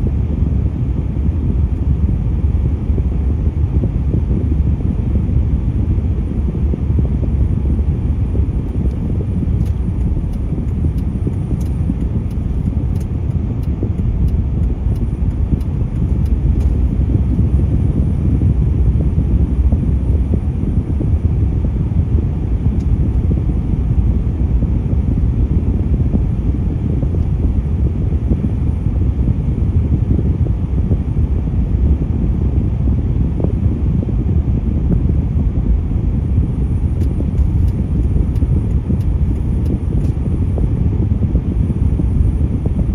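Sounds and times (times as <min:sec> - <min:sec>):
low rumble of road traffic: 0:00.0 - 0:42.9.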